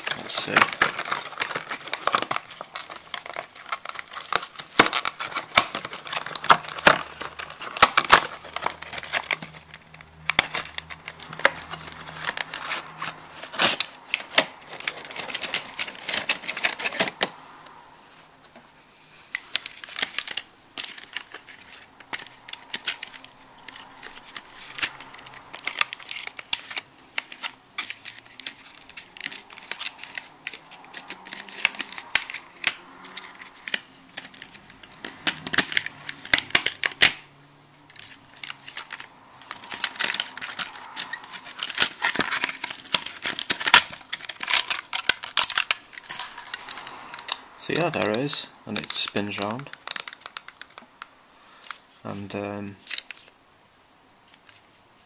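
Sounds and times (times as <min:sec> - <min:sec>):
packaging crinkling and clicking: 0:00.0 - 0:53.4, 0:54.2 - 0:55.0.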